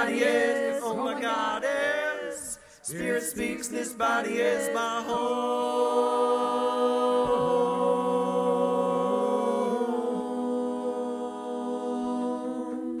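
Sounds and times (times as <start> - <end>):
a cappella voices holding chord: 0.0 - 13.0.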